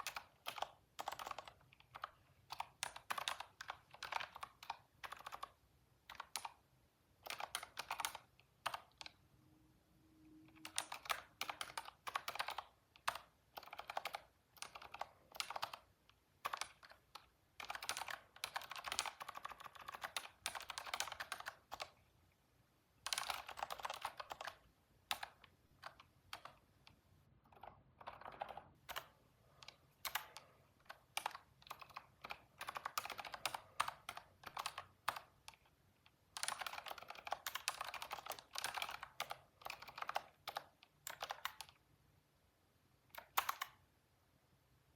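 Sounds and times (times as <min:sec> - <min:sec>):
typing on computer keyboard: 0:00.0 - 0:06.6, 0:07.2 - 0:09.2, 0:10.5 - 0:22.0, 0:23.0 - 0:41.8, 0:43.1 - 0:43.8.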